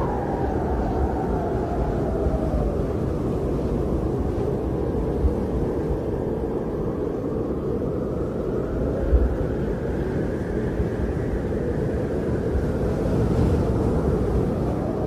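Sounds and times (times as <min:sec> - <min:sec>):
blizzard wind roaring: 0:00.0 - 0:15.0
wind buffeting microphone: 0:00.0 - 0:15.0.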